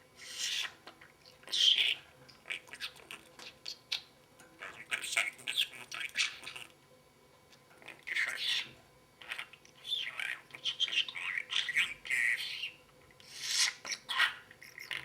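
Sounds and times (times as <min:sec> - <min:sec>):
parrot squawking and chattering: 0:00.2 - 0:06.8, 0:07.8 - 0:15.0.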